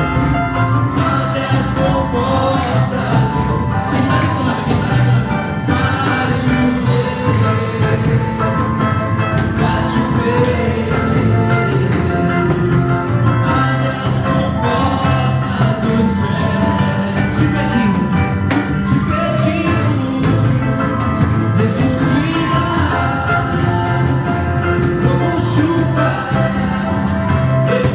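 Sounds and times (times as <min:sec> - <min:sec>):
fast percussion beat: 0:00.0 - 0:27.9
people singing: 0:00.0 - 0:27.9.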